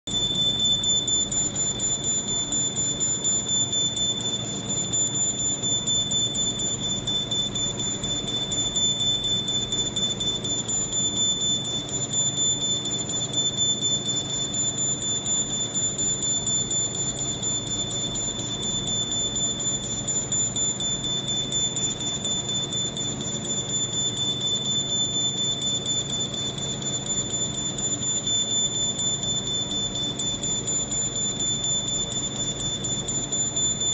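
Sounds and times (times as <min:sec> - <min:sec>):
high-pitched machine whine: 0:00.1 - 0:33.9.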